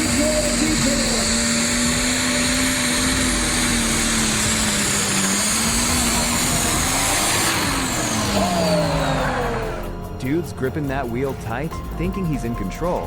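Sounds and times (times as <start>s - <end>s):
vehicle engine droning: 0.0s - 12.1s.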